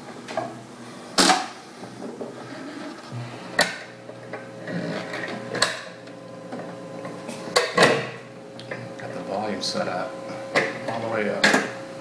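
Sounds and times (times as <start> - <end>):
record player motor hum: 0.0 - 12.0.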